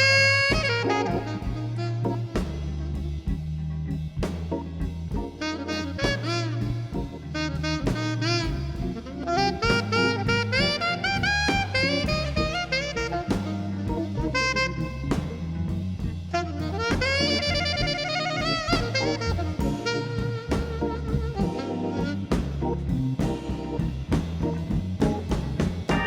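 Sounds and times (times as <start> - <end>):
saxophone melody with vibrato: 0.0 - 3.6, 5.1 - 25.1, 25.8 - 26.0
bass: 0.0 - 26.0
drum kit: 0.0 - 26.0.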